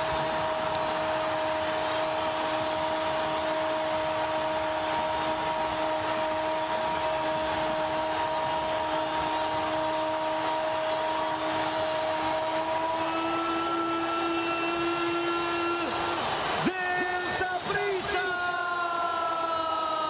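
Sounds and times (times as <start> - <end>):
stadium crowd noise: 0.0 - 20.0.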